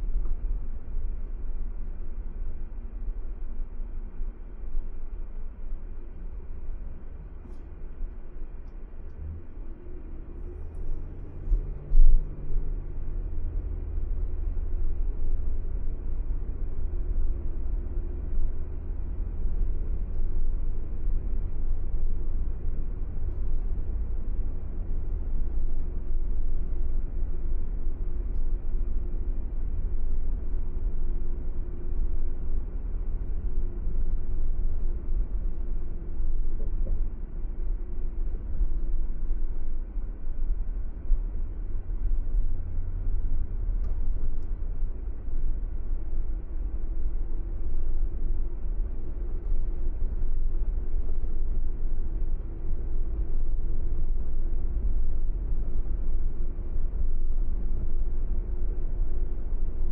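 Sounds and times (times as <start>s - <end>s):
car road and engine rumble: 0.0s - 59.9s
faint steady hum: 0.0s - 59.9s.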